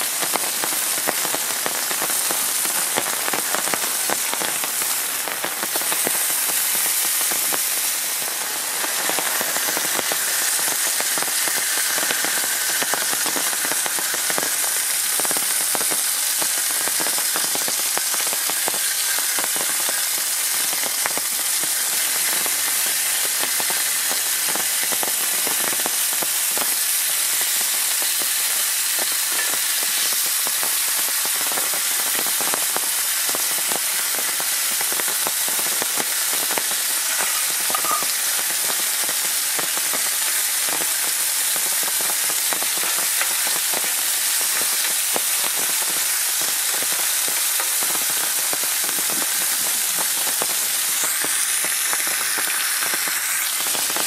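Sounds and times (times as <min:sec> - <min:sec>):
burger and onions sizzling: 0:00.0 - 0:54.0.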